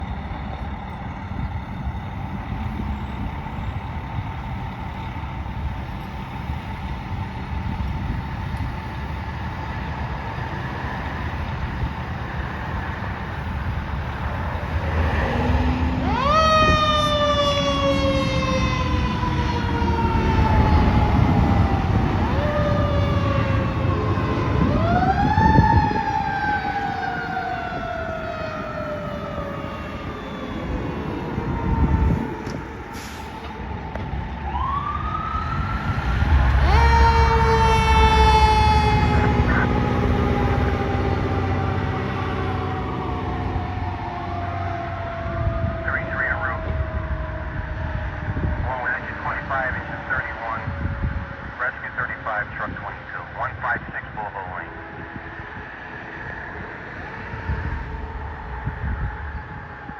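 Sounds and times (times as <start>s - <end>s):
fire engine siren: 0.0s - 59.9s
traffic rumble: 0.0s - 59.9s.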